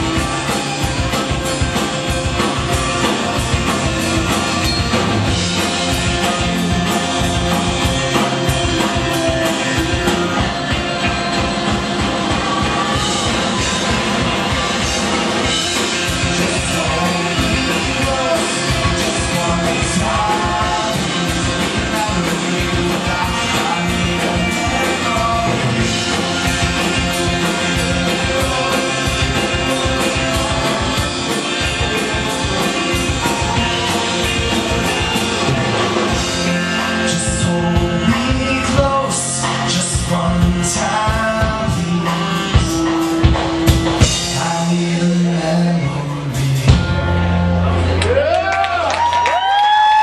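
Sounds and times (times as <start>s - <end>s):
drum beat: 0.0s - 45.0s
person singing: 0.0s - 47.2s
live rock band playing: 0.0s - 50.0s.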